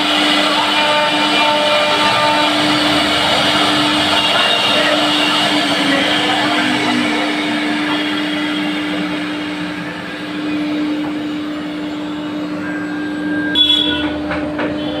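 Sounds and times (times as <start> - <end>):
cnc machine humming: 0.0 - 15.0.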